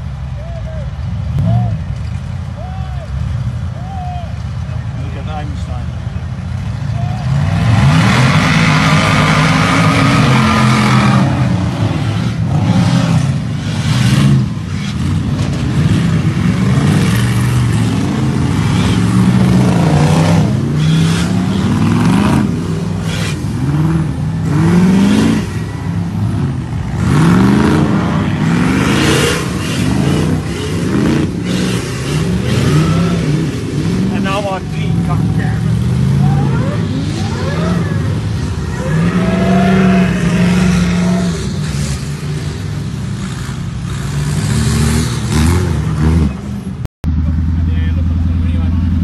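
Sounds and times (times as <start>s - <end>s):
off-road trucks revving: 0.0s - 49.0s.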